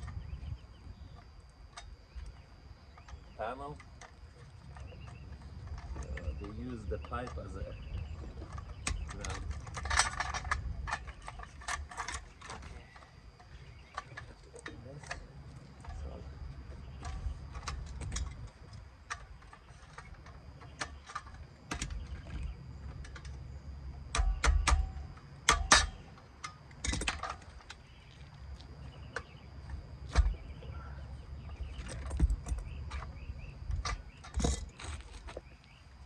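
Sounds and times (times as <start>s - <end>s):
hand tools clinking and knocking: 3.0s - 23.4s, 24.1s - 28.0s, 29.0s - 35.5s.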